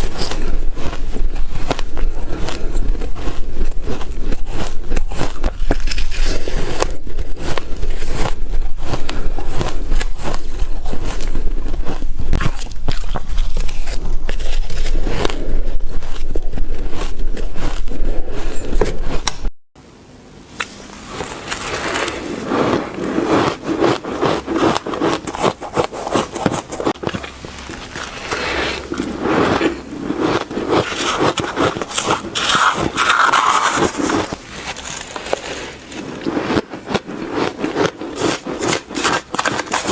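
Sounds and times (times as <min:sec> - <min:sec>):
ice being chewed: 0:00.0 - 0:19.5, 0:21.1 - 0:39.9.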